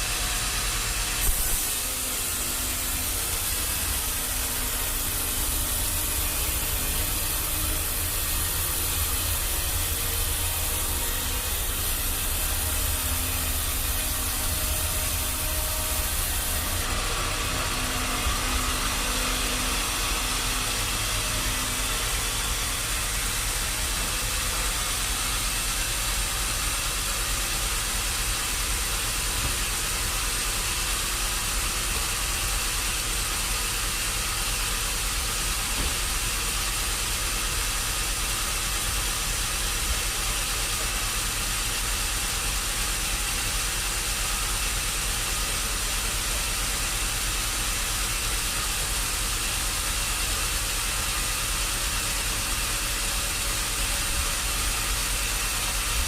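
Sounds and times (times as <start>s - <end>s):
machinery hiss and rumble: 0.0s - 56.0s.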